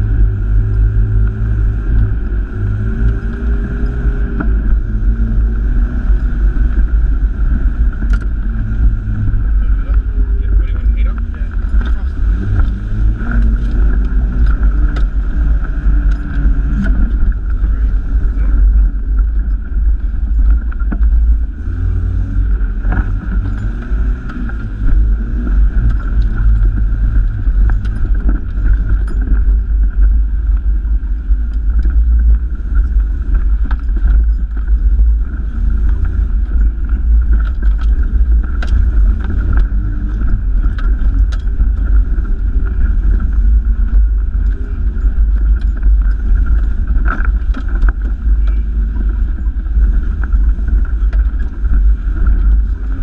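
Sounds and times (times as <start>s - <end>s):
deep engine drone: 0.0s - 53.0s
high whine: 0.0s - 53.0s
vehicle rattling over bumps: 0.0s - 53.0s.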